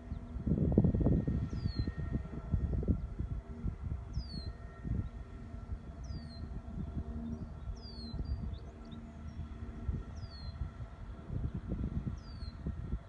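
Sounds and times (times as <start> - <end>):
equipment hum: 0.0 - 13.0
wind buffeting microphone: 0.0 - 13.0.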